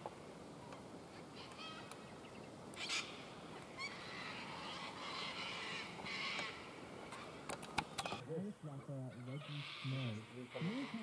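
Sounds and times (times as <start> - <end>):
cockatoos calling: 0.6 - 11.0.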